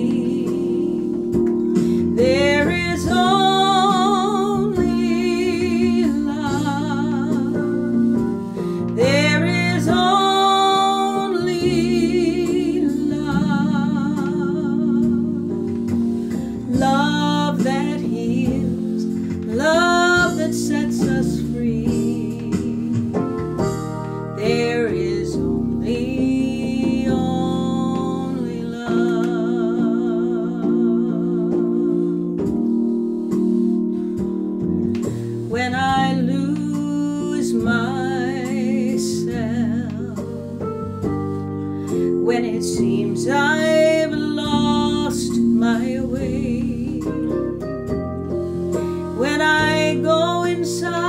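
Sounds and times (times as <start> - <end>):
woman singing with vibrato: 0.0 - 23.3, 24.4 - 33.1, 35.5 - 40.8, 41.9 - 47.7, 48.8 - 51.0
electronic keyboard chords: 0.0 - 51.0.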